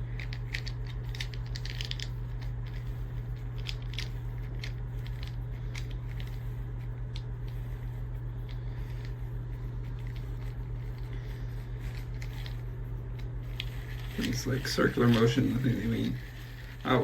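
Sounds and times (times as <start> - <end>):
brush scratching keyboard keys: 0.0 - 17.0
steady low hum: 0.0 - 17.0.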